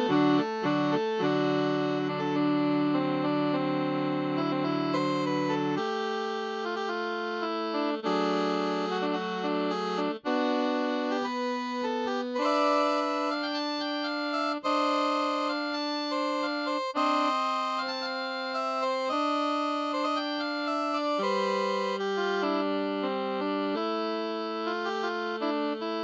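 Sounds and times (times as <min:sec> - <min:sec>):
electronic keyboard chords: 0:00.0 - 0:26.0.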